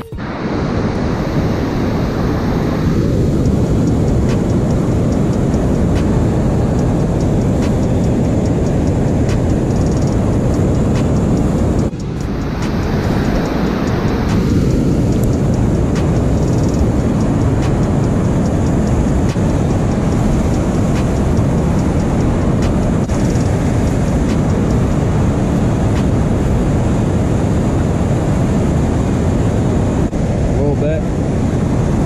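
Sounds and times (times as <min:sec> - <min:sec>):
water rushing from spillway: 0:00.0 - 0:32.0.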